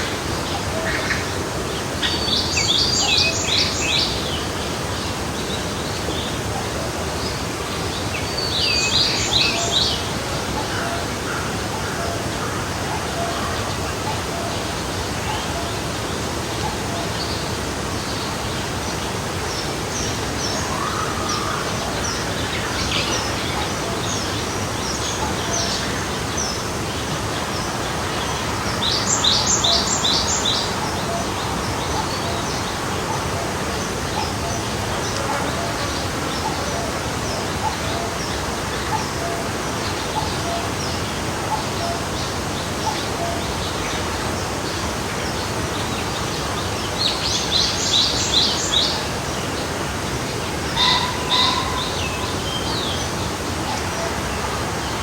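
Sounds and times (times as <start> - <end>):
songbirds chirping: 0.0 - 55.0
stream flowing: 0.0 - 55.0.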